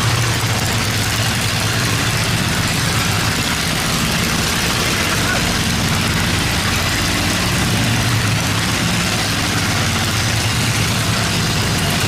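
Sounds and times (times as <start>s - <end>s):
boat engines humming: 0.0s - 12.0s.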